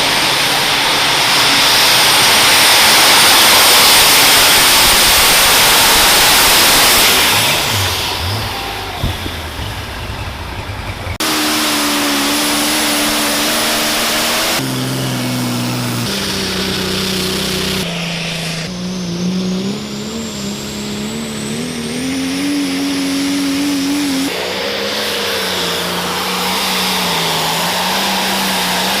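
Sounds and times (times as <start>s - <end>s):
high turbo whine: 0.0s - 29.0s
tractor engines at high revs: 0.0s - 29.0s.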